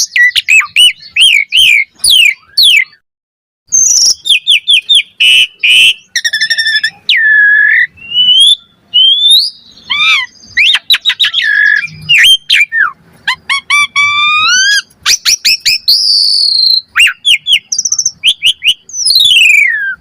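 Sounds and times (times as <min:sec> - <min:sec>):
starling singing: 0:00.0 - 0:03.0, 0:03.7 - 0:20.0.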